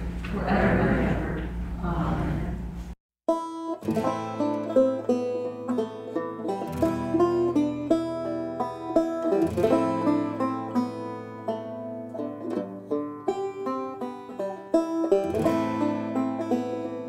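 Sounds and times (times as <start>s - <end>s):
plucked string melody: 3.3s - 17.0s.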